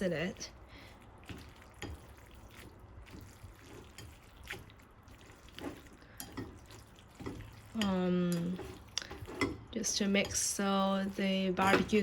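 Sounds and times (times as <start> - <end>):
wet squelching of noodles: 0.0 - 12.0.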